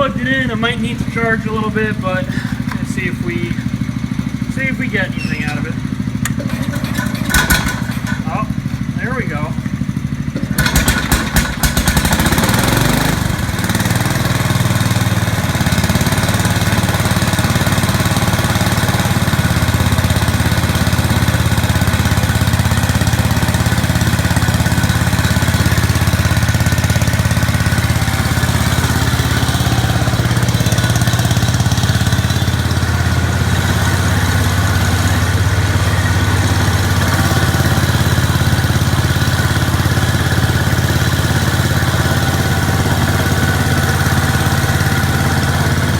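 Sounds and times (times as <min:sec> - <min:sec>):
garden tractor engine running: 0:00.0 - 0:45.9.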